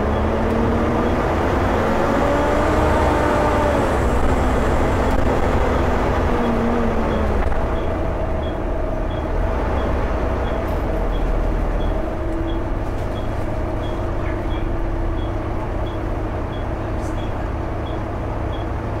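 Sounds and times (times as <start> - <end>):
bus diesel engine drone: 0.0 - 19.0.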